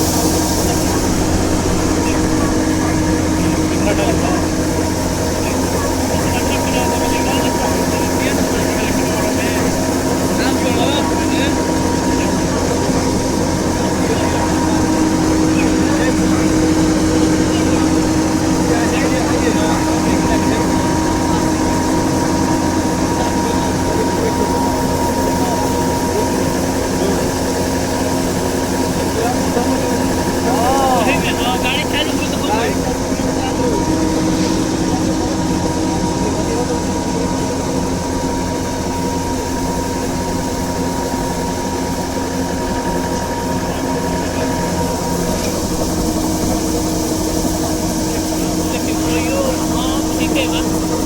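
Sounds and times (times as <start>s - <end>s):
combine harvester engine drone: 0.0s - 51.0s
steady high whine: 0.0s - 51.0s.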